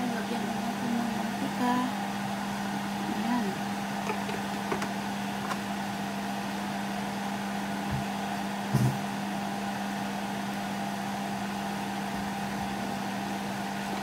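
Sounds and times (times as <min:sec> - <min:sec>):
motor humming with hiss: 0:00.0 - 0:14.0.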